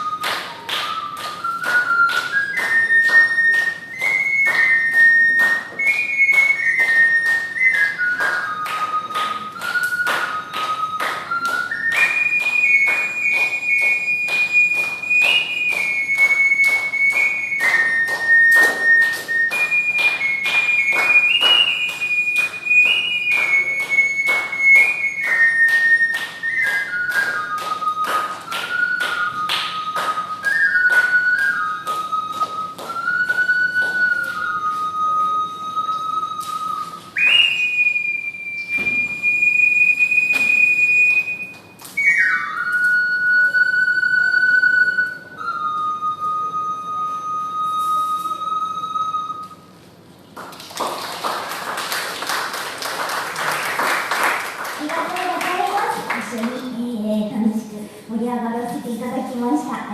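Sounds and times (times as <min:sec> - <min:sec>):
ocarina melody: 0:00.0 - 0:50.4, 0:51.2 - 0:59.9.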